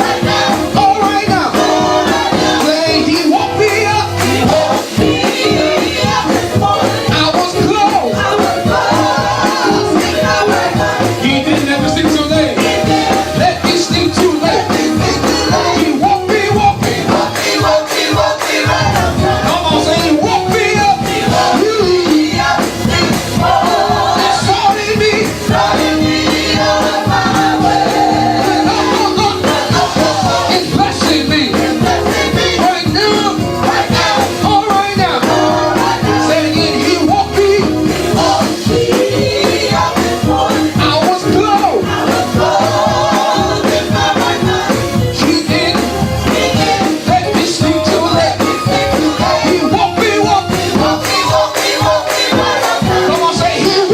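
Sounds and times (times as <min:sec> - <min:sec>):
gospel band playing: 0:00.0 - 0:53.9
people singing: 0:00.0 - 0:53.9
shaker or tambourine beat: 0:00.0 - 0:53.9.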